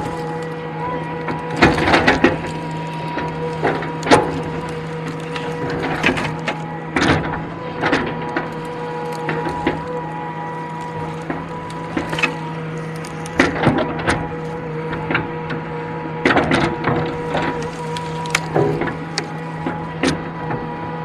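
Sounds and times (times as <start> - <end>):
excavator hydraulic whine: 0.0 - 21.0
logs knocking and cracking: 0.0 - 21.0.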